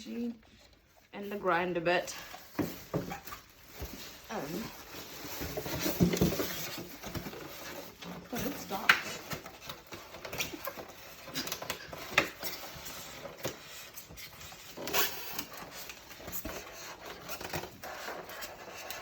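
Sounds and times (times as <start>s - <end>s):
packaging rustling: 2.2s - 19.0s.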